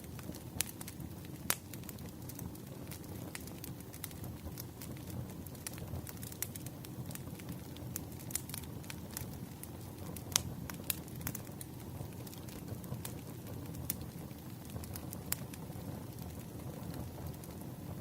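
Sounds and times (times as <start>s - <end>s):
fire flames rumbling: 0.0s - 18.0s
wood fire crackling and popping: 0.0s - 18.0s.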